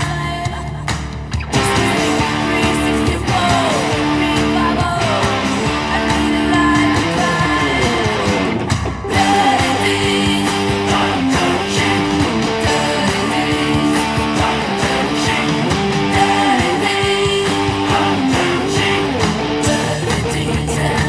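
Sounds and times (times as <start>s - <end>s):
electric guitar rock riff: 1.0s - 21.0s.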